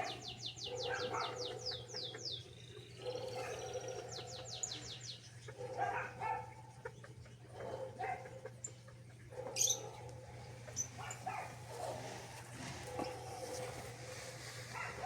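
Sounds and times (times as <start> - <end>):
cage birds singing: 0.0 - 15.0.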